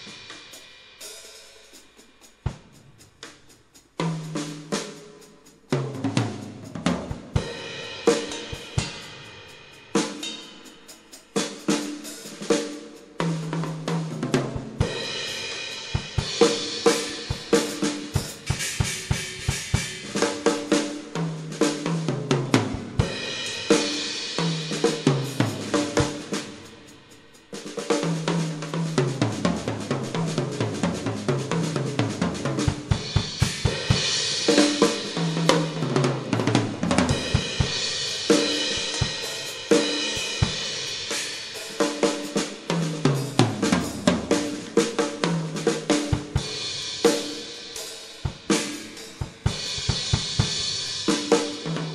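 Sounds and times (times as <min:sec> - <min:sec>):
drum kit groove: 0:00.0 - 0:51.9.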